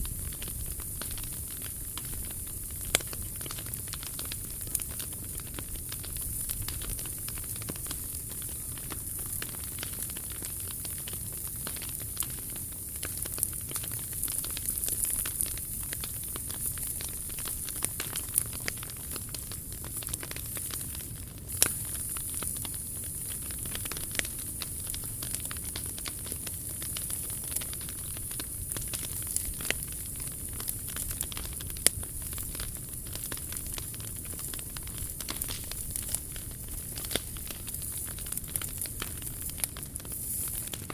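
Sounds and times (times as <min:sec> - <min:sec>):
fire popping: 0:00.0 - 0:40.9
wood fire crackling: 0:00.0 - 0:40.9.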